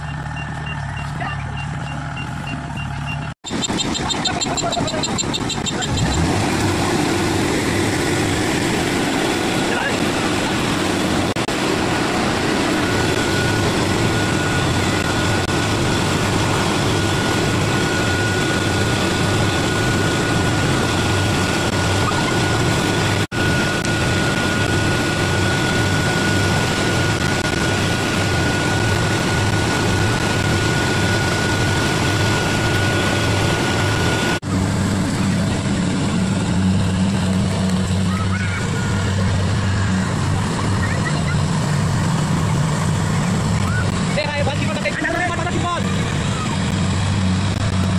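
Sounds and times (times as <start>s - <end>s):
combine harvester running: 0.0s - 47.9s
thin steady whine: 0.0s - 47.9s.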